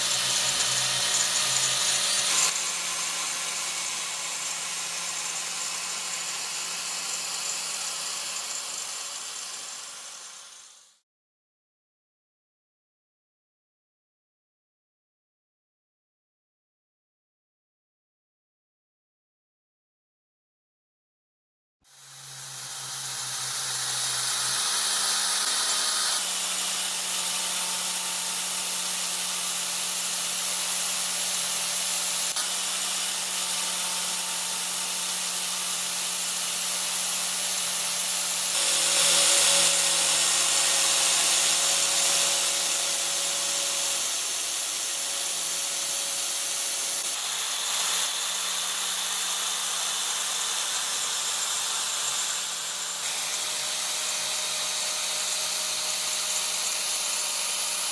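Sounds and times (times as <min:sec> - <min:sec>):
power tool running on metal: 0:00.0 - 0:11.0, 0:21.9 - 0:57.9.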